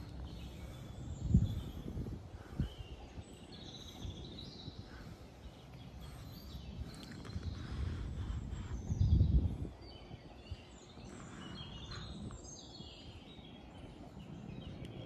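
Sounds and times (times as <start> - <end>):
birds chirping and singing: 0.0 - 15.0
wind buffeting microphone: 0.0 - 15.0.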